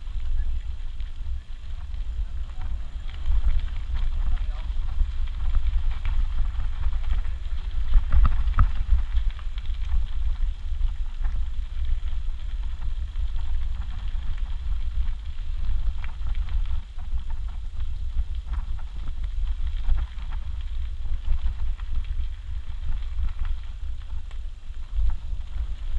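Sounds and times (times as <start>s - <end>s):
wind rumble on microphone: 0.0s - 25.9s.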